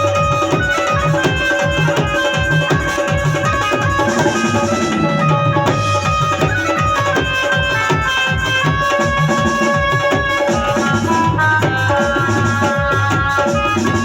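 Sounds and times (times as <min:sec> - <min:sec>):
fast drumming: 0:00.0 - 0:14.0.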